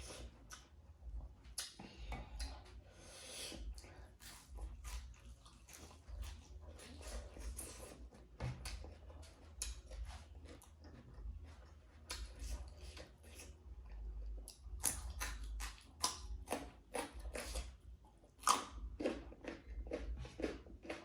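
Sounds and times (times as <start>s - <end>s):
low hum: 0.0s - 20.8s
person chewing food: 0.0s - 21.0s.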